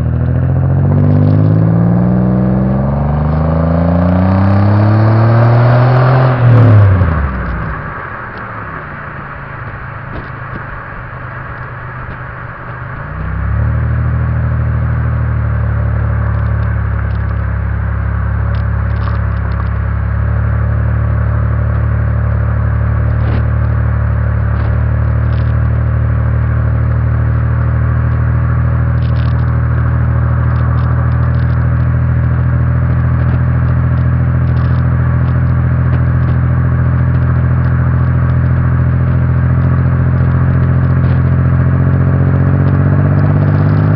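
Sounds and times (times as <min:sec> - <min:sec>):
car engine idling: 0:06.3 - 0:43.9.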